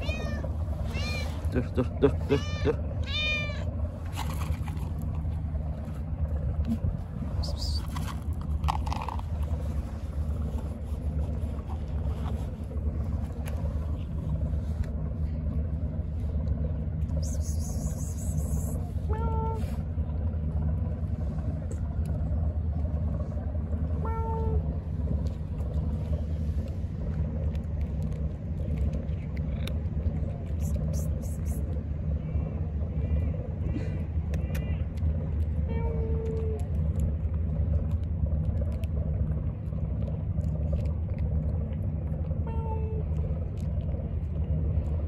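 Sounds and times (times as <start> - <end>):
low engine rumble: 0.0 - 45.0.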